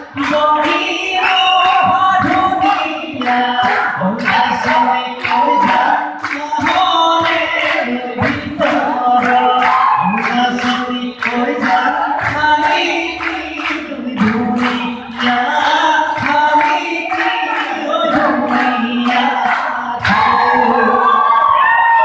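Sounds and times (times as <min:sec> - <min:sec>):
voices singing: 0:00.0 - 0:21.7
rhythmic clapping: 0:00.0 - 0:22.0.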